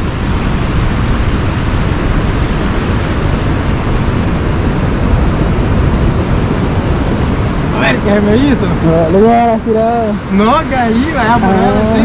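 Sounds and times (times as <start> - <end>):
ocean surf breaking: 0.0 - 12.0
wind rumble on microphone: 0.0 - 12.0.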